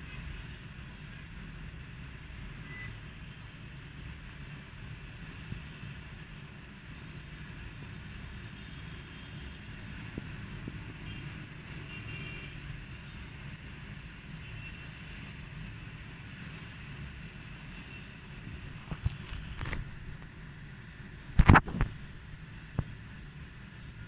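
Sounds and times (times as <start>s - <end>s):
distant road traffic: 0.0s - 24.0s.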